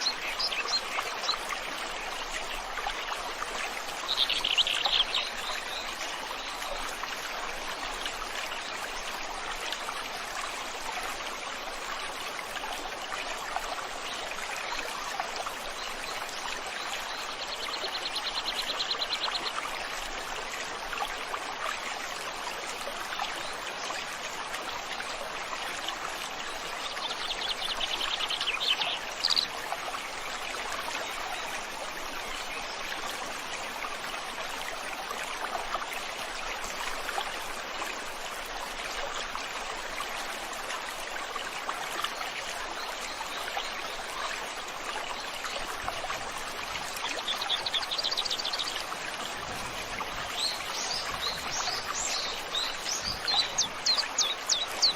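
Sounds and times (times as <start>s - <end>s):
river flowing: 0.0s - 54.9s.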